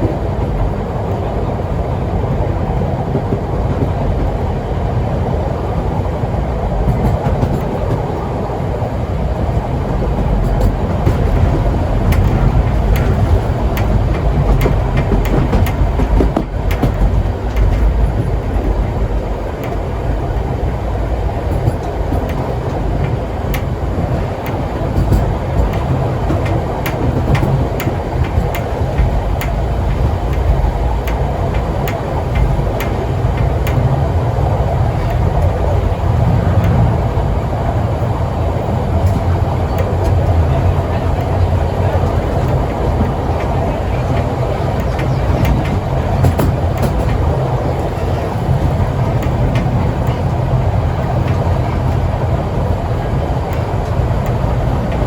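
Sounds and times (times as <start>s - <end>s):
train wheels rumbling on rails: 0.0s - 55.0s
wheels clacking over rail joints: 0.0s - 55.0s.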